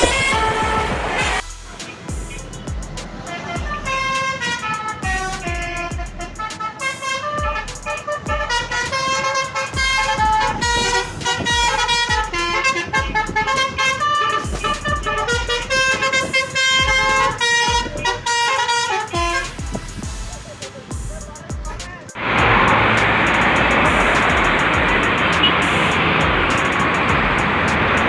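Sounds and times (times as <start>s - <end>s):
bus air horns playing melody: 0.0s - 20.9s, 22.1s - 28.0s
low thumping beat: 0.0s - 28.0s.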